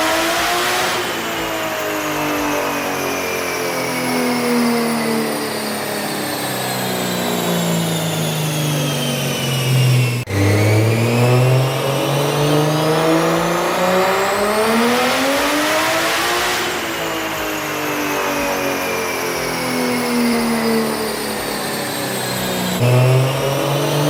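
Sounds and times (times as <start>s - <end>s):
engine revving at full throttle: 0.0s - 24.0s
engine winding down: 0.0s - 24.0s.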